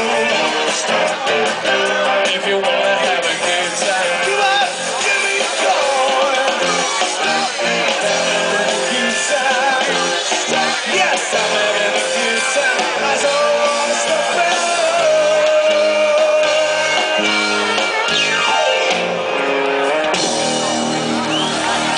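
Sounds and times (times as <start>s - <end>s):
person singing: 0.0s - 19.2s
rock band playing live: 0.0s - 21.9s.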